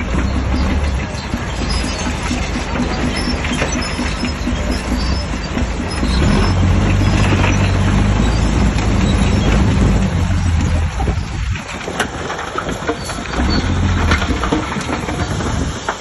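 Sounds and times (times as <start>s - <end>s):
bulldozer diesel engine working: 0.0s - 16.0s.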